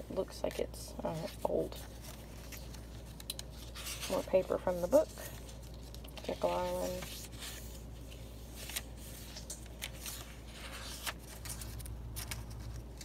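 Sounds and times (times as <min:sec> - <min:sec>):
paper pages rustling: 0:00.4 - 0:13.0
paper crackles: 0:00.5 - 0:13.0.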